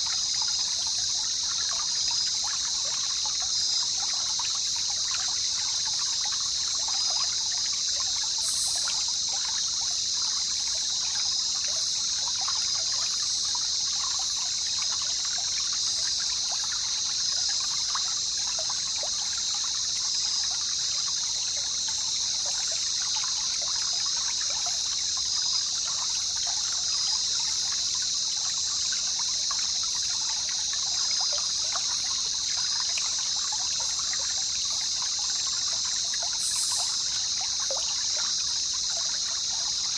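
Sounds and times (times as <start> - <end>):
steady high-pitched hiss: 0.0 - 39.9
water trickling and babbling: 0.0 - 39.9.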